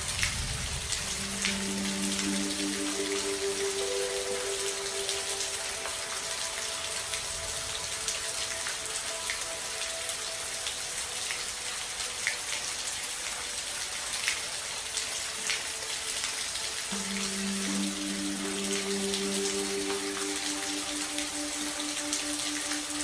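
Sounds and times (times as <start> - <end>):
raindrops ticking: 0.0 - 11.7, 14.2 - 23.0
faint held music tones: 0.0 - 23.0
rain hissing: 0.0 - 23.0.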